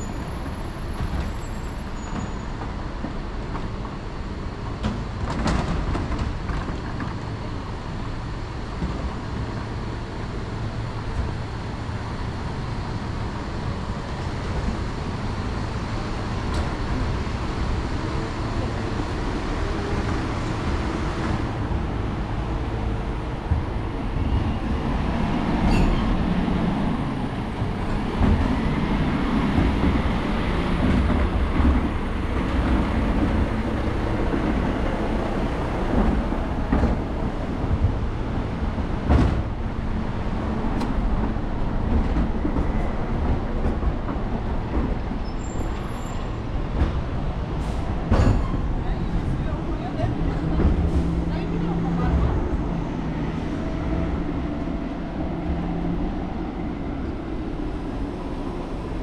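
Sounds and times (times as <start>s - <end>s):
rail vehicle wheels on rails: 0.0s - 59.0s
traffic noise: 0.0s - 59.0s.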